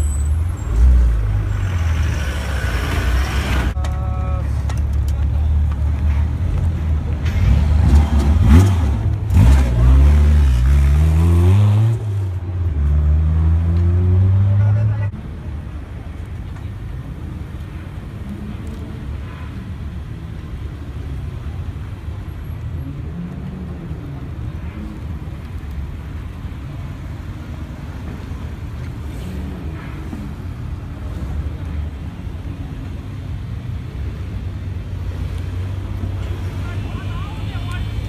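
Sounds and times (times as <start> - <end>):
car engines rumbling: 0.0 - 38.0.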